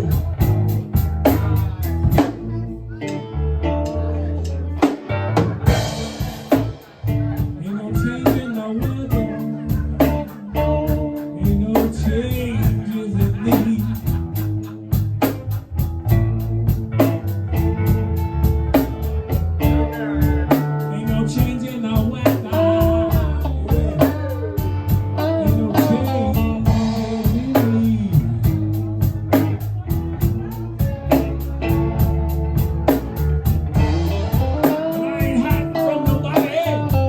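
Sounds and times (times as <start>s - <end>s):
blues-rock band playing: 0.0s - 37.0s.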